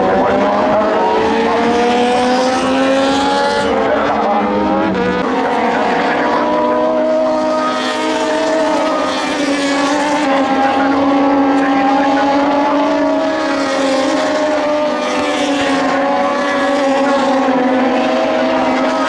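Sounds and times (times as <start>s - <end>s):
race bike engines accelerating: 0.0s - 19.0s.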